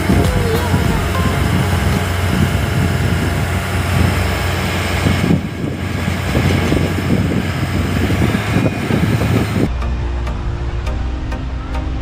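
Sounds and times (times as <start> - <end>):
wind buffeting microphone: 0.0 - 9.7
speedboat engine running: 0.0 - 12.0.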